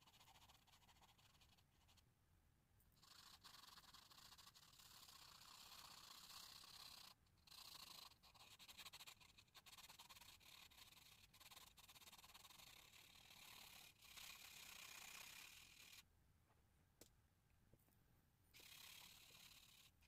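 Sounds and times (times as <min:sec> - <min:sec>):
pencil scratching on paper: 0:00.0 - 0:02.1, 0:03.0 - 0:16.1, 0:18.6 - 0:20.0.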